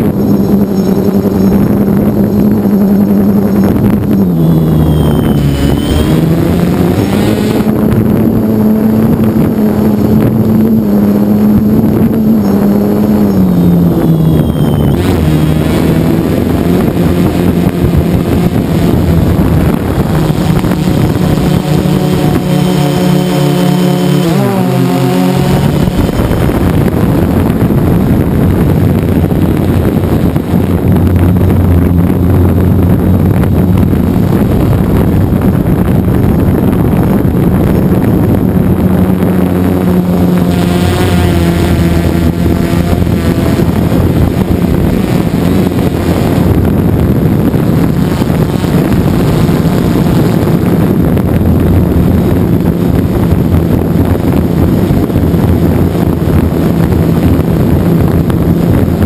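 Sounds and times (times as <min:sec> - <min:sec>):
drone motors and propellers droning: 0:00.0 - 0:59.0
wind noise on microphone: 0:00.0 - 0:59.0.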